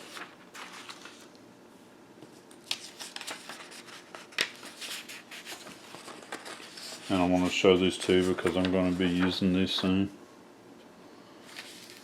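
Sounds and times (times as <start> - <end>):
paper sheets rustling: 0.0 - 1.4, 2.2 - 10.0, 11.4 - 12.0.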